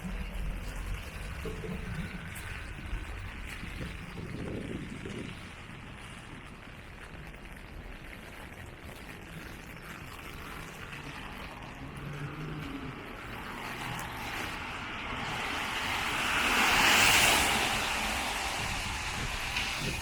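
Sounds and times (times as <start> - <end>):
rain patter: 0.0 - 20.0
tyre hiss on wet street: 0.0 - 20.0.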